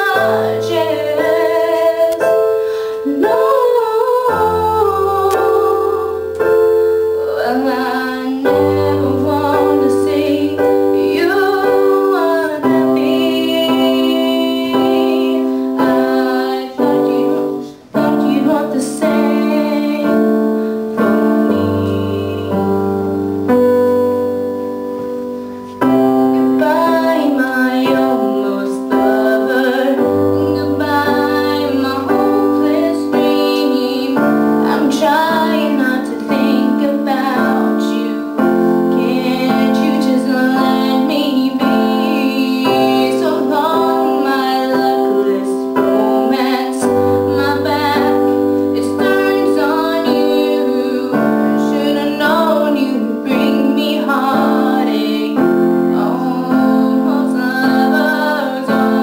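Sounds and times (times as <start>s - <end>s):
woman singing a slow ballad: 0.0s - 24.4s, 25.4s - 59.0s
piano accompaniment: 0.0s - 59.0s.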